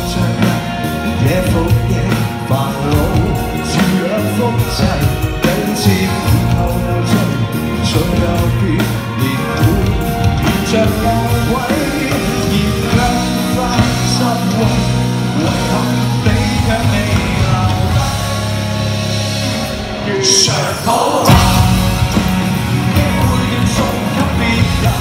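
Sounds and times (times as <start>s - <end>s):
bass: 0.0s - 25.0s
drum kit: 0.0s - 25.0s
electric guitars: 0.0s - 25.0s
man singing: 0.0s - 25.0s.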